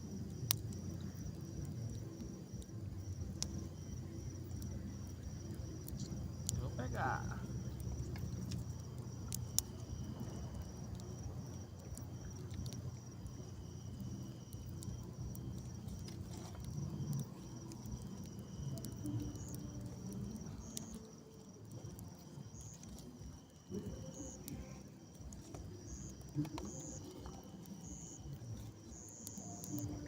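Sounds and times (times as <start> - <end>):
insects trilling: 0.0 - 30.0
lower intermittent insect trill: 0.0 - 30.0.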